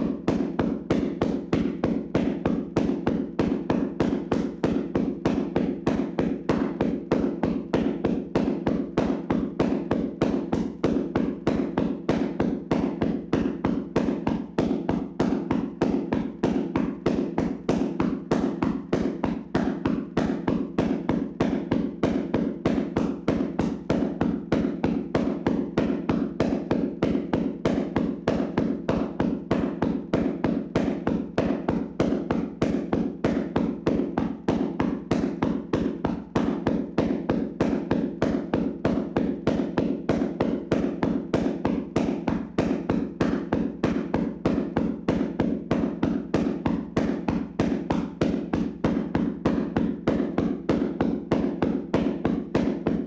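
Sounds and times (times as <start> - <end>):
hands slapping body: 0.3 - 53.0.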